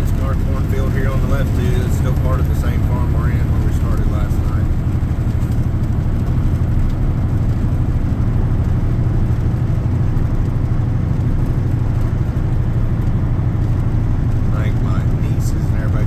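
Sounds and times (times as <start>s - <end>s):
road noise: 0.0s - 16.0s
truck diesel engine drone: 0.0s - 16.0s.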